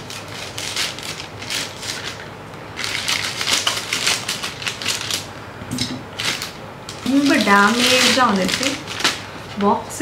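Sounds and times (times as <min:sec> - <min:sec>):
packaging crinkling and tearing: 0:00.0 - 0:05.4, 0:06.1 - 0:09.9.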